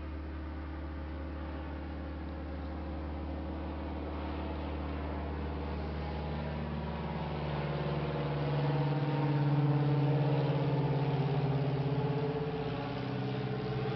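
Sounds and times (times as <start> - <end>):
aircraft engine drone: 0.0 - 13.9.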